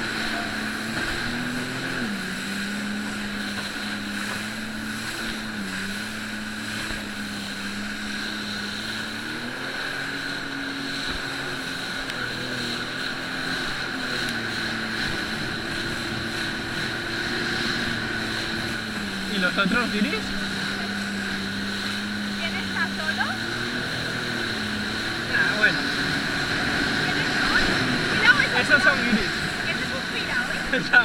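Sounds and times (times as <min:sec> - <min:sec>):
jet ski engine running: 0:00.0 - 0:31.0
steady high whine: 0:00.0 - 0:31.0.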